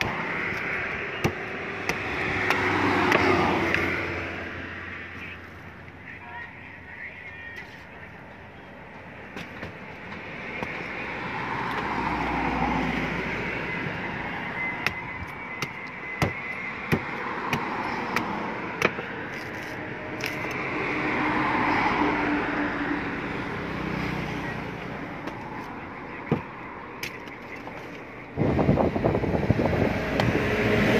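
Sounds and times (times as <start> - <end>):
passing vehicles: 0.0 - 30.9.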